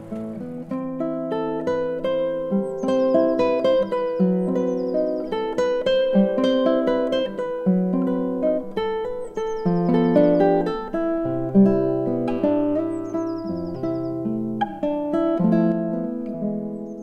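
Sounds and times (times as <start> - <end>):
plucked acoustic guitar melody: 0.0 - 17.0.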